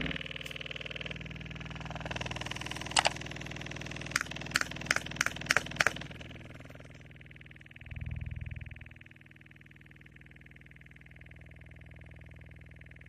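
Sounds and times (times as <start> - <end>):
steady buzzing tone: 0.0 - 13.0.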